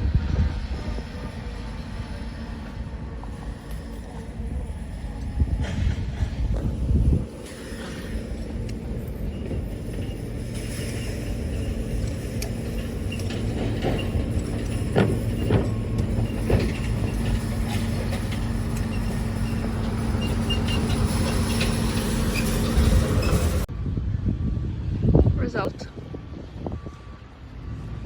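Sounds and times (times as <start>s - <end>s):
engine humming: 0.0s - 23.7s.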